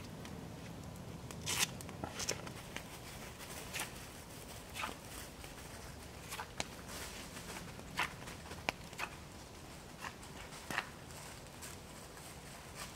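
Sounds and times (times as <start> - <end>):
campfire burning: 0.0 - 12.9
dry crackles of fire: 0.0 - 12.9.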